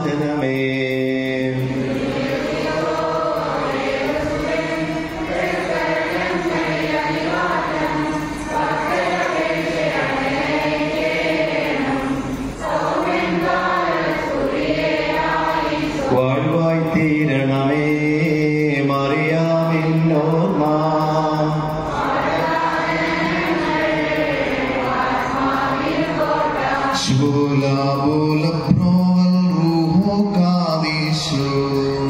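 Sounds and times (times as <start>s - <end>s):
steady held tone: 0.0s - 32.0s
voices chanting slow melody: 0.0s - 32.0s.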